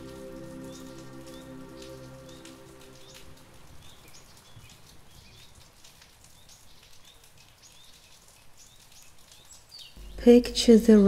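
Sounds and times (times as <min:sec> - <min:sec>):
rain drops pattering: 0:00.0 - 0:11.0.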